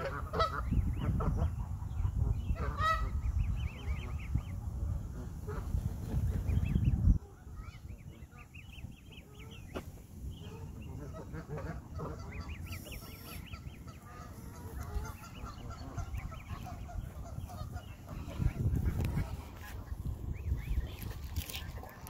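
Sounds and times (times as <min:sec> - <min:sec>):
goslings peeping: 0:00.0 - 0:22.0
low microphone rumble: 0:00.0 - 0:22.0.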